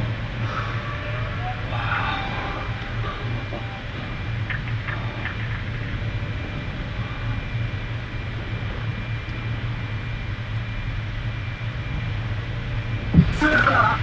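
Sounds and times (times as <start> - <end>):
submersible machinery humming: 0.0 - 14.0.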